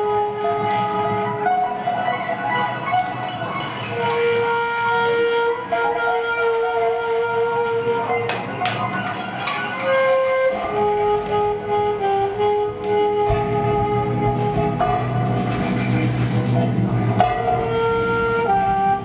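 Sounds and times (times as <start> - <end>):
saxophone long notes: 0.0 - 9.0, 9.7 - 19.0.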